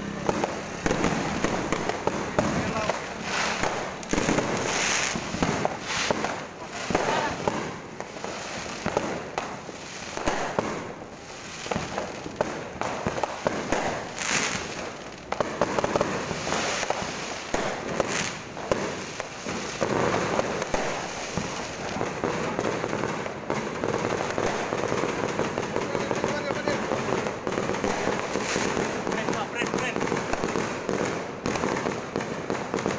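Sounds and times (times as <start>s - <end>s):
firecrackers popping: 0.0s - 32.9s
fireworks bursting: 0.0s - 32.9s
fireworks hissing: 0.0s - 32.9s.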